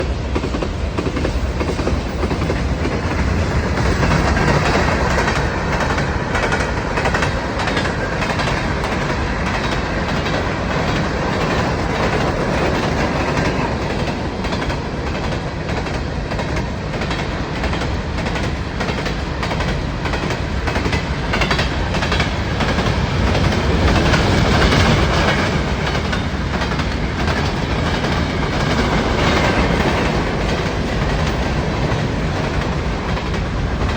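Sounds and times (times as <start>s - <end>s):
train rumbling on rails: 0.0s - 33.9s
wheels clacking over rail joints: 0.0s - 33.9s.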